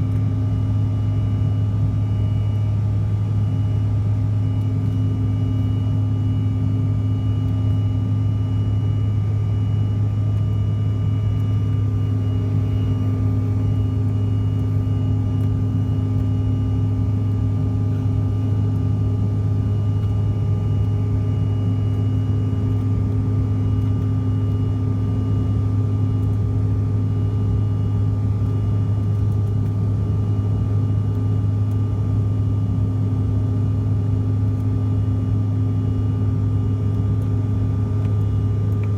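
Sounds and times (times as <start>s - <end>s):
faint high whine: 0.0s - 32.6s
airliner cabin engine drone: 0.0s - 38.9s.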